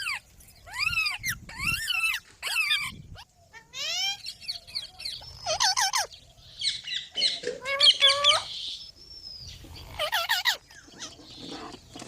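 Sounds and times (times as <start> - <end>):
parrot chirping calls: 0.0 - 11.8.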